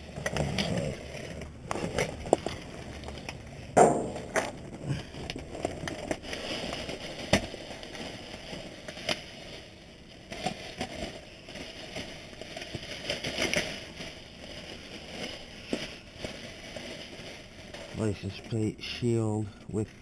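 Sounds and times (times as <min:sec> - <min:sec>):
plastic bags crinkling: 0:00.0 - 0:20.0.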